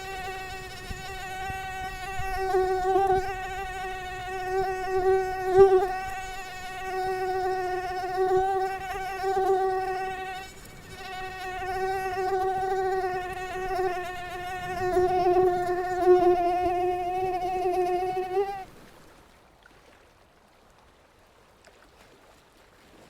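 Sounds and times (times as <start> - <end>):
mosquito whining in flight: 0.0 - 18.7.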